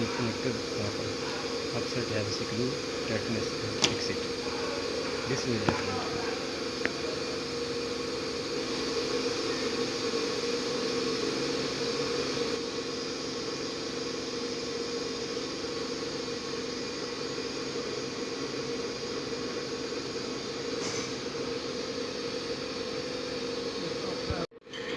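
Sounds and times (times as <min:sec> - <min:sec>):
even hiss: 0:00.0 - 0:24.5
steady mechanical hum: 0:00.0 - 0:24.9.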